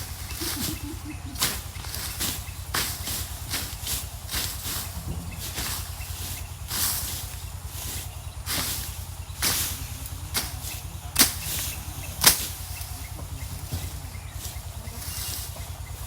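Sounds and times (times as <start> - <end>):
knife slashing bush: 0.0 - 12.9
steady low hum: 0.0 - 16.0.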